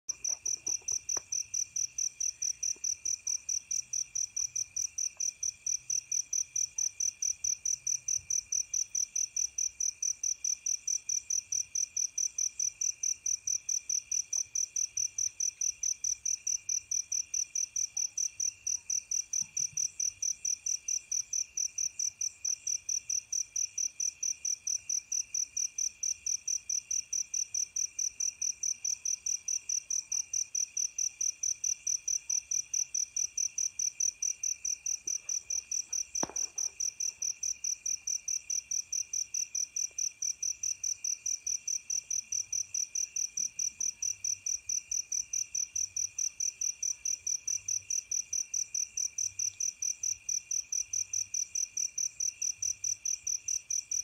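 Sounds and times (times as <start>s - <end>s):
crickets chirping: 0.1s - 54.0s.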